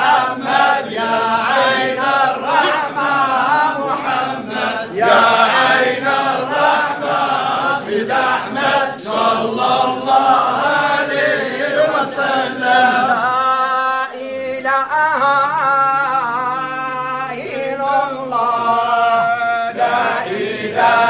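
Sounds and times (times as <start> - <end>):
men chanting together: 0.0 - 14.9, 16.4 - 21.0.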